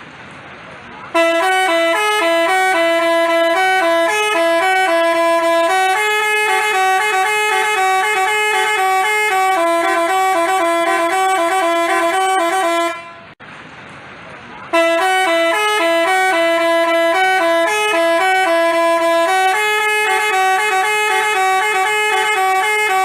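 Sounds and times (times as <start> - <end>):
musical bus horn tune: 1.1 - 13.4, 14.7 - 23.0.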